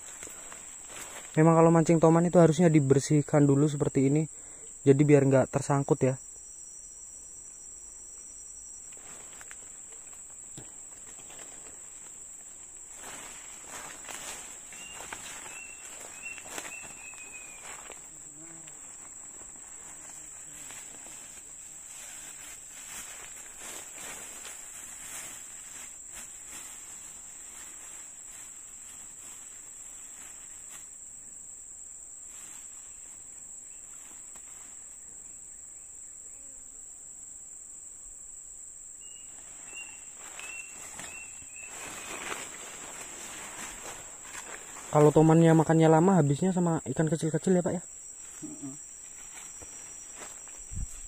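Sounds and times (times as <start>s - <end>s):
insects shrill chorus: 0.0s - 31.3s, 38.9s - 51.0s.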